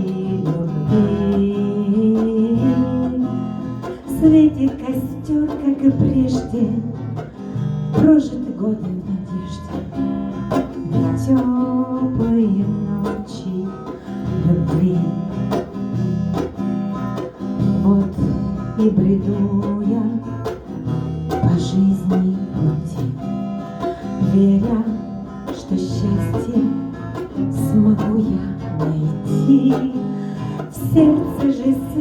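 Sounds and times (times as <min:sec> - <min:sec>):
acoustic guitar strumming: 0:00.0 - 0:32.0
woman singing: 0:00.0 - 0:32.0.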